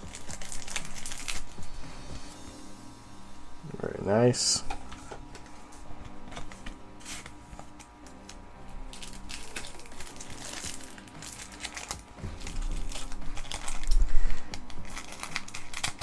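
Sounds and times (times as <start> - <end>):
cards and packaging rustling: 0.0 - 2.3, 4.5 - 16.0
soft background music: 0.0 - 16.0.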